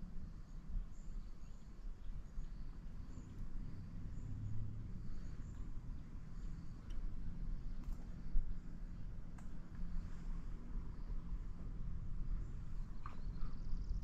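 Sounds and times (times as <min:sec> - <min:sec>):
steady low rumble: 0:00.0 - 0:14.0
small birds chirping: 0:00.3 - 0:14.0.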